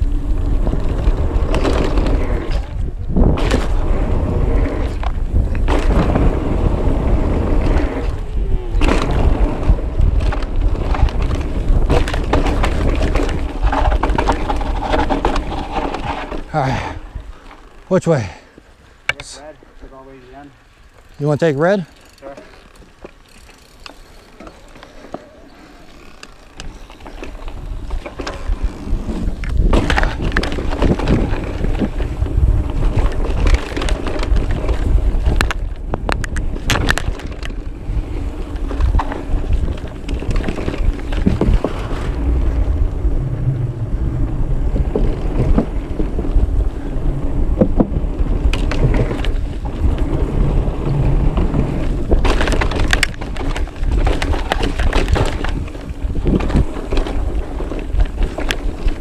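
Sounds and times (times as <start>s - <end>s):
bike knocks and rattles: 0.0s - 16.5s, 26.0s - 59.0s
wind buffeting microphone: 0.0s - 17.5s, 26.4s - 59.0s
bike tyre rumble: 0.0s - 59.0s.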